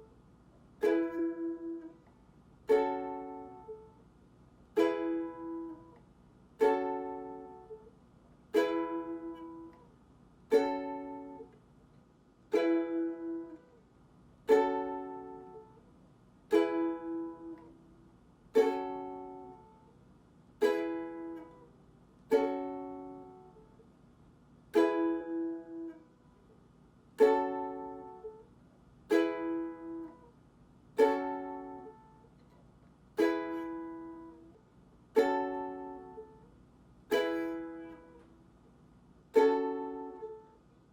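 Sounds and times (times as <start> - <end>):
ukulele chords strummed: 0.7 - 4.0, 4.7 - 9.9, 10.5 - 11.6, 12.5 - 13.8, 14.4 - 15.9, 16.5 - 20.0, 20.6 - 23.8, 24.7 - 26.3, 27.2 - 32.5, 33.1 - 38.5, 39.2 - 40.7.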